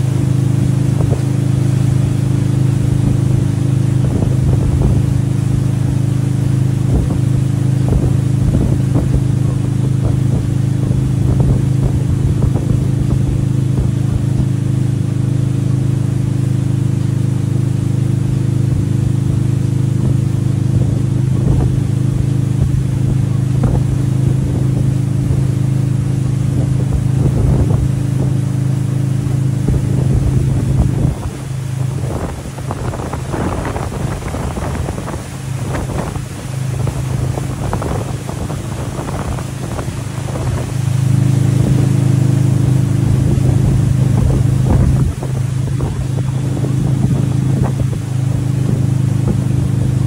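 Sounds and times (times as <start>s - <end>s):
wind buffeting microphone: 0.0s - 16.4s, 18.4s - 50.0s
boat engine hum: 0.0s - 50.0s
churning wake water: 0.0s - 50.0s.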